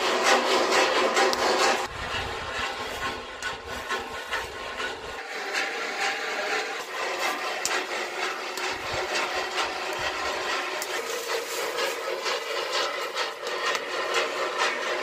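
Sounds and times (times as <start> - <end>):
stick scraping metal pan: 0.0 - 15.0.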